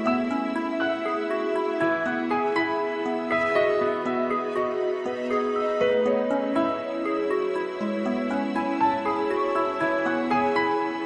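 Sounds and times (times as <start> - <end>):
calm instrumental music: 0.0 - 11.0.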